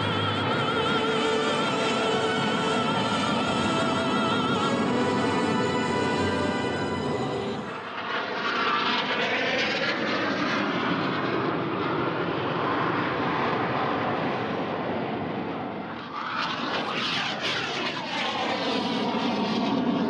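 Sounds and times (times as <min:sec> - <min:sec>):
jets flying past: 0:00.0 - 0:20.0.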